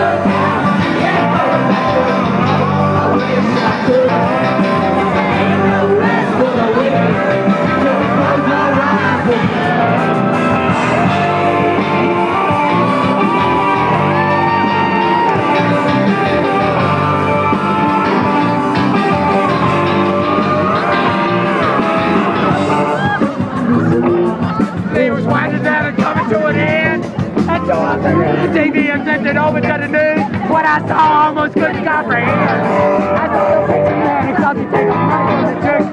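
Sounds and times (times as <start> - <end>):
electric guitars: 0.0 - 35.9
live rock band: 0.0 - 35.9
person singing: 0.0 - 35.9.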